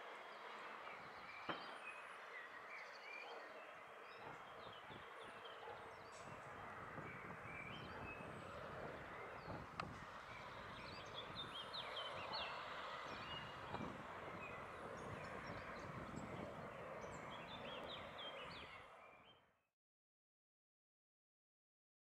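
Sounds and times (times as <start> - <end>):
small birds chirping: 0.3 - 19.4.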